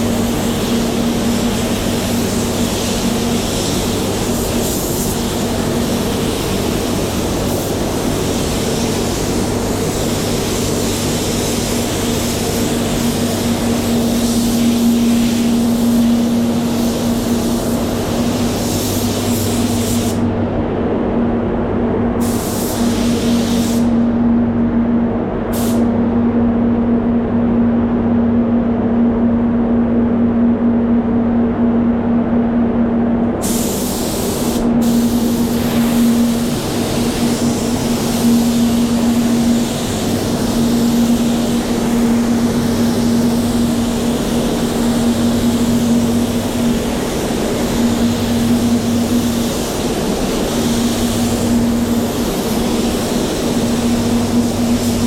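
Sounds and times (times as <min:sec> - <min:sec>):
spray gun hissing: 0:00.0 - 0:20.3, 0:22.2 - 0:24.0, 0:25.5 - 0:25.9, 0:33.4 - 0:55.0
low machine hum: 0:00.0 - 0:55.0.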